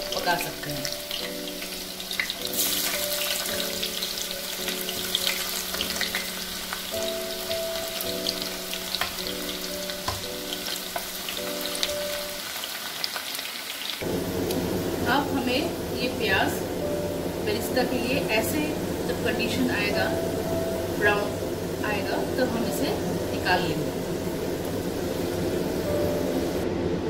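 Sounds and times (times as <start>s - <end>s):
soft background music: 0.0s - 12.8s, 14.3s - 27.0s
onions sizzling in oil: 0.0s - 26.6s.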